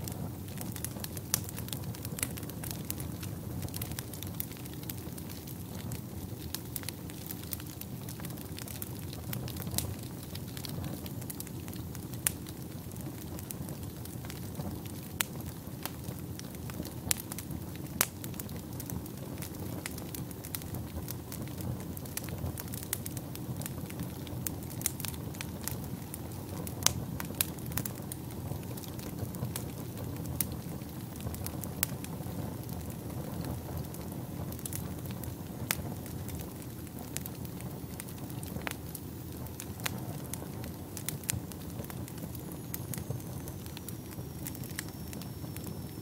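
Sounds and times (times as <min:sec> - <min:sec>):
fire crackling and popping: 0:00.0 - 0:46.0
fire roaring: 0:00.0 - 0:46.0.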